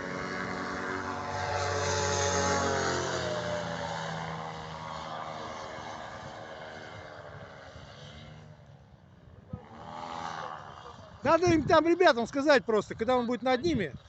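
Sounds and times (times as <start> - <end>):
light aircraft droning overhead: 0.0 - 14.0.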